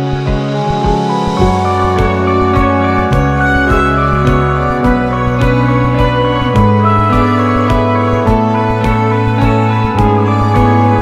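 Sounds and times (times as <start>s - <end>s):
instrumental music with low beat: 0.0s - 11.0s.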